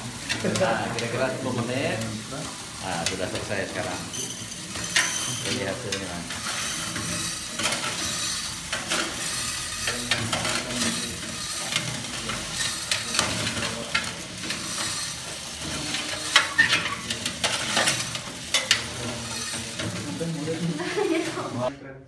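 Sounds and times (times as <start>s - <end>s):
coffee beans pouring into jar: 0.0s - 21.7s
roaster drum and motor running: 0.0s - 21.7s.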